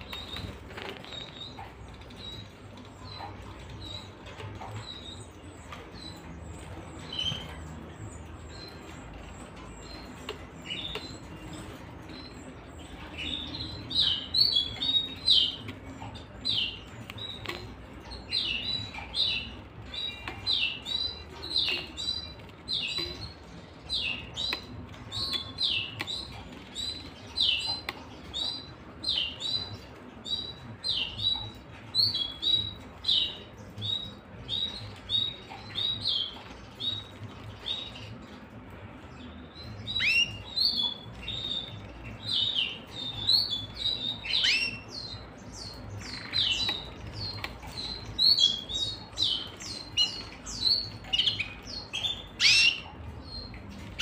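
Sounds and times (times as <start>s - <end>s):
canaries chirping: 0.0s - 54.0s.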